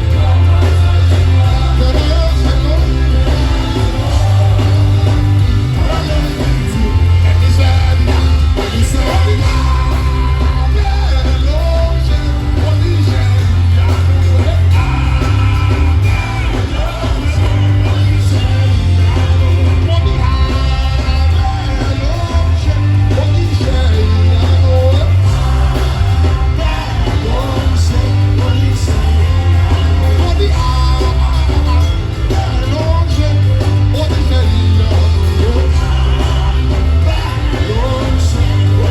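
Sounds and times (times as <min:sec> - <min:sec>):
band playing worship music: 0:00.0 - 0:38.9
heavy bass line: 0:00.0 - 0:38.9
people singing: 0:00.0 - 0:38.9.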